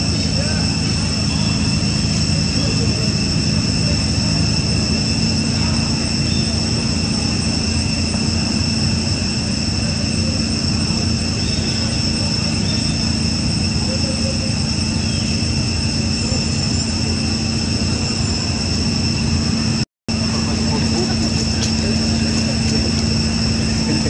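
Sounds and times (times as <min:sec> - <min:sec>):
mechanical drone: 0:00.0 - 0:24.0.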